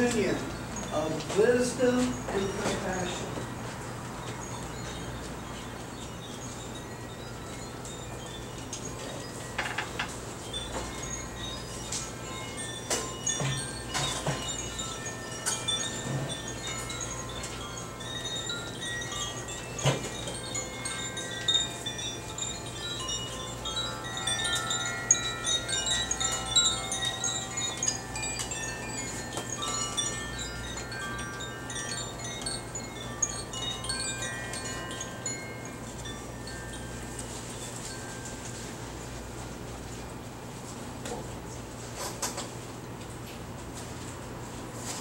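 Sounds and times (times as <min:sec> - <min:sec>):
wind chimes ringing: 0:00.0 - 0:40.0.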